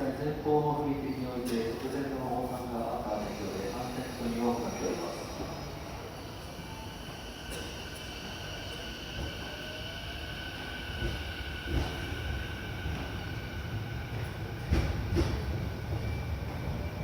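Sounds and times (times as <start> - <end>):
electric train rumble: 3.0 - 17.0.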